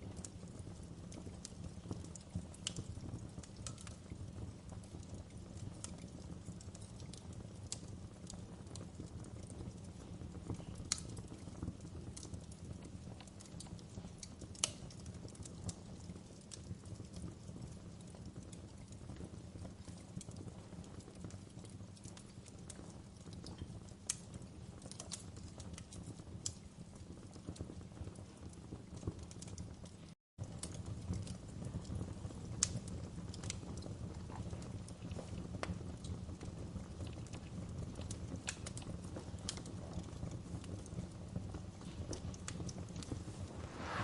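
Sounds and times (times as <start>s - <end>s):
burning logs popping: 0.0s - 44.0s
wood fire crackling: 0.0s - 44.0s.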